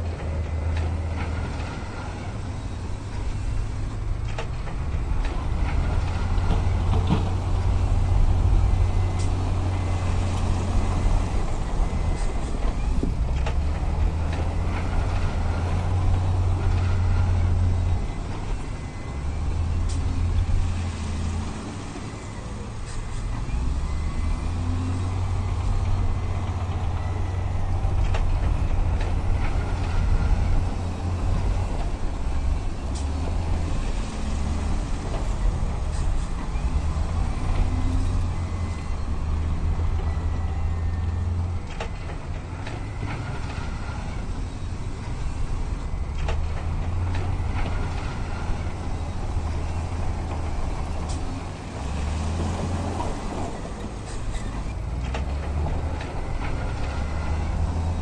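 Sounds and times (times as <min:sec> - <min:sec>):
heavy diesel engines rumbling: 0:00.0 - 0:58.0.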